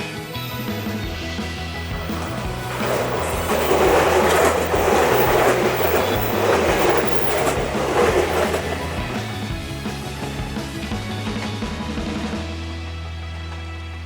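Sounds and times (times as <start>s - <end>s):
background music: 0.0s - 14.0s
train wheels clattering on rails: 0.1s - 11.6s.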